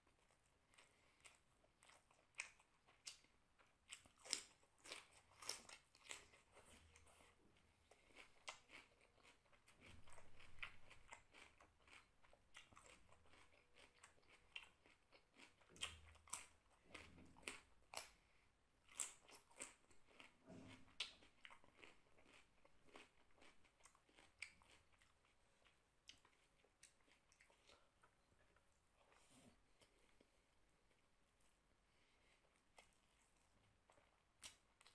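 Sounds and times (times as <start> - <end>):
person chewing food: 0.0 - 34.9.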